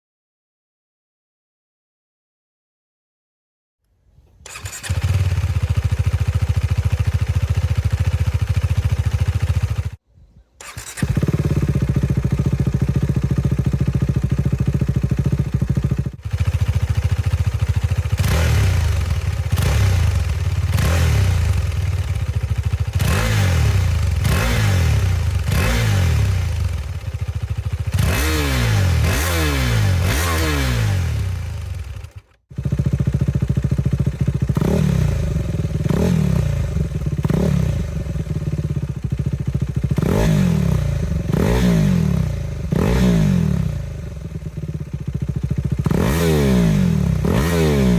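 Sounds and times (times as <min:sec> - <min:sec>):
motorcycle throttle blips: 0:04.2 - 0:47.9
motorcycle engine idling: 0:04.4 - 0:28.2, 0:30.9 - 0:47.9.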